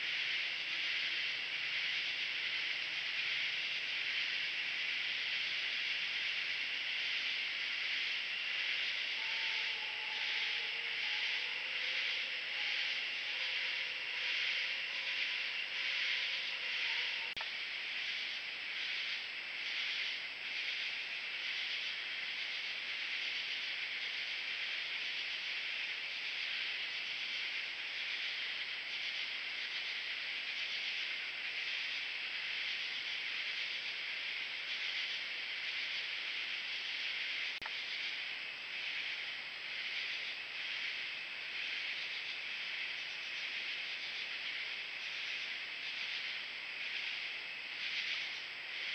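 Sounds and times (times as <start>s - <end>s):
insect chorus buzzing: 0.0s - 48.9s.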